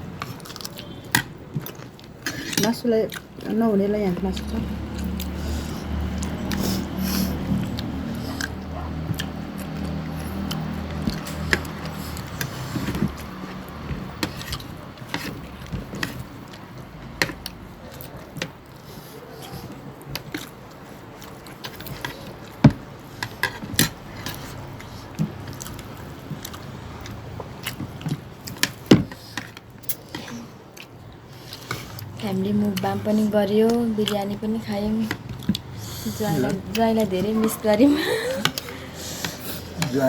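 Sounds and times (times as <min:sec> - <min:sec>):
people chewing food: 0:00.0 - 0:40.0.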